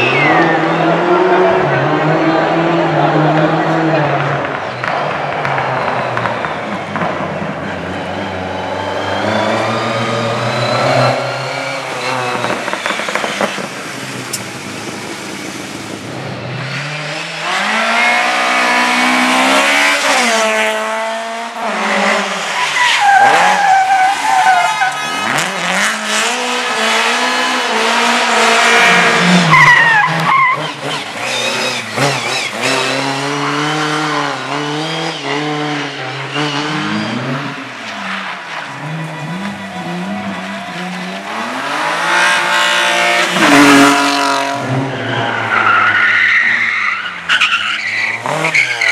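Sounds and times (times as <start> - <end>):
race car engines revving: 0.0 - 48.9
tires squealing and skidding: 0.0 - 48.9.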